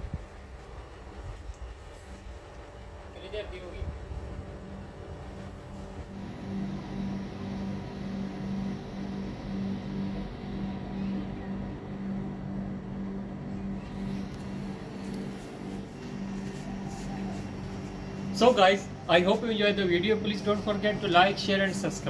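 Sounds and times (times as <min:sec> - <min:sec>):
throbbing machine hum: 0:02.5 - 0:22.0.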